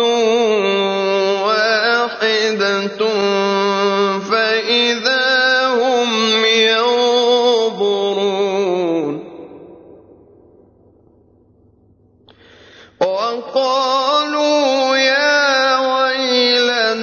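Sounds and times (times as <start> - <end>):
man reciting melodically: 0.0 - 9.6, 12.7 - 17.0.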